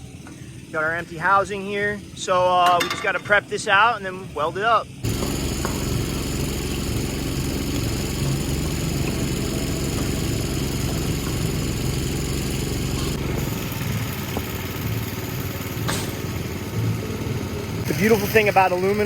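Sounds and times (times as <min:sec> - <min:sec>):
welding generator engine idling: 0:00.0 - 0:19.0.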